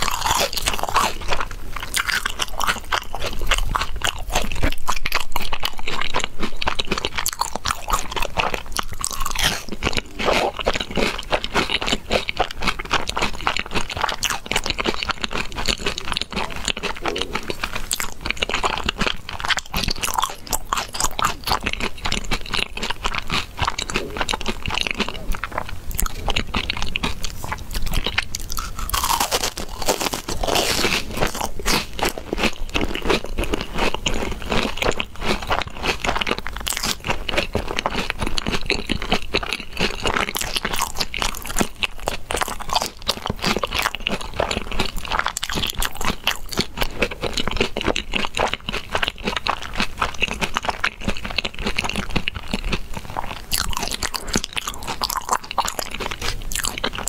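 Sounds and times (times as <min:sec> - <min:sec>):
crunching and chewing crispy food: 0:00.0 - 0:57.0.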